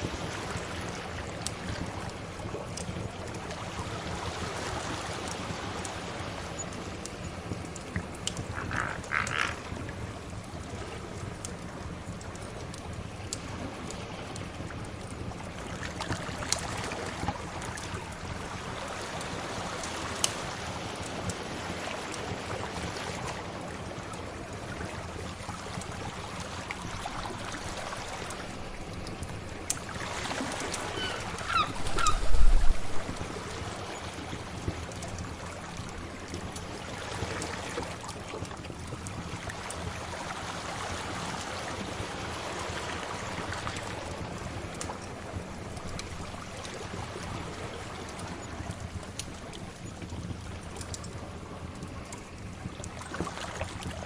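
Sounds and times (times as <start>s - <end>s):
sea waves washing: 0.0s - 54.0s.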